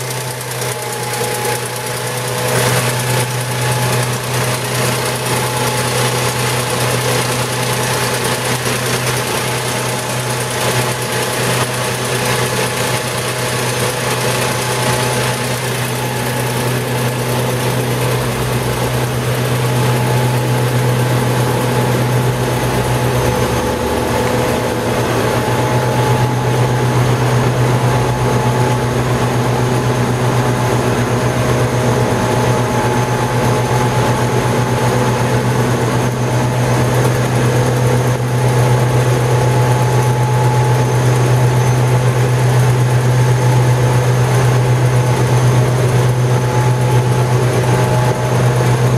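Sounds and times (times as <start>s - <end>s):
truck engine and machinery drone: 0.0s - 48.9s.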